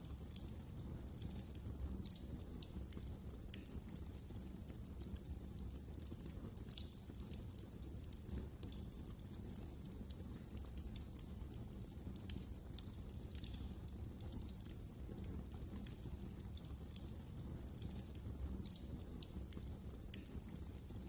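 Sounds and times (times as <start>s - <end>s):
low rumble of burning: 0.0s - 21.0s
wood fire crackling and popping: 0.0s - 21.0s.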